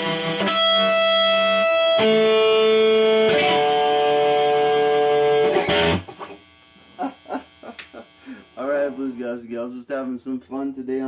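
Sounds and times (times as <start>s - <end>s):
electric guitar sustained notes: 0.0s - 9.2s.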